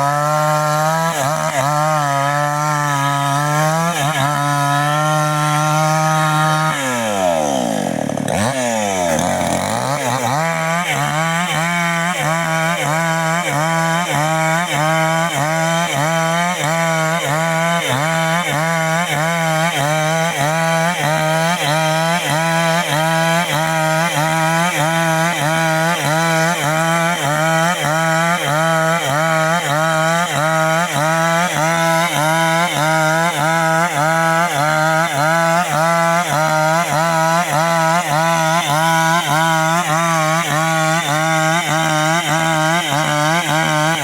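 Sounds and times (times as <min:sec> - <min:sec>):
chainsaw cutting wood: 0:00.0 - 0:44.0.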